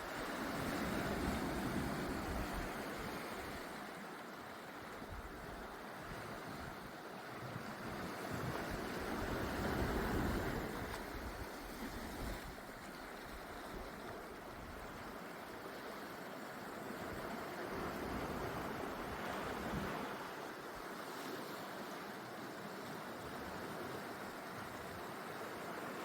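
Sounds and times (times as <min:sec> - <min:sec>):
waves breaking on a beach: 0:00.0 - 0:26.0.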